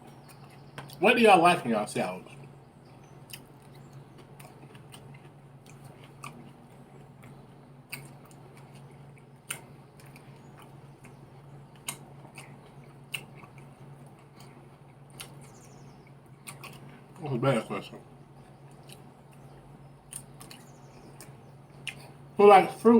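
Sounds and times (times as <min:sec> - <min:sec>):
steady low hum: 0:00.0 - 0:22.9
person chewing salad: 0:02.3 - 0:17.2, 0:18.4 - 0:22.3.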